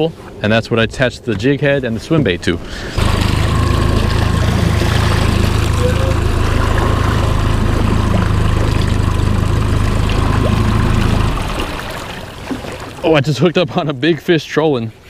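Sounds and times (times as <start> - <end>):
outboard motor humming: 1.4 - 13.6
water and wind hiss: 2.5 - 15.0.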